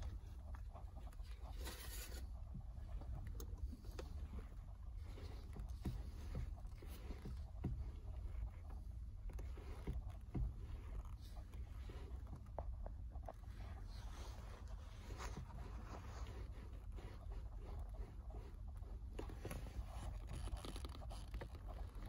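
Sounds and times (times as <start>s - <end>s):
light clicks and creaks: 0.0s - 22.0s.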